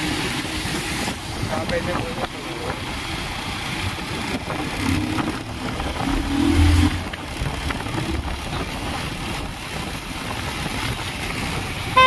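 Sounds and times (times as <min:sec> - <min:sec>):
road and wind noise: 0:00.0 - 0:12.0
vehicle engine running: 0:00.7 - 0:12.0.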